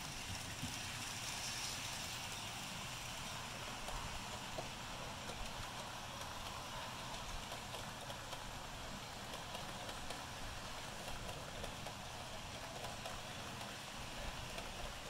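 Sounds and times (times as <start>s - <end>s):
model train whirring: 0.0s - 15.0s
wheels clicking on rails: 0.0s - 15.0s.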